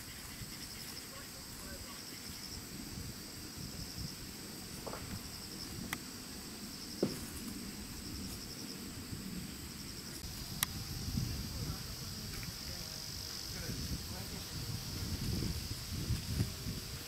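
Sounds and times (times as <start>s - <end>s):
insects chirping in pulsed trills: 0.0s - 17.0s
steady high hiss: 0.0s - 17.0s.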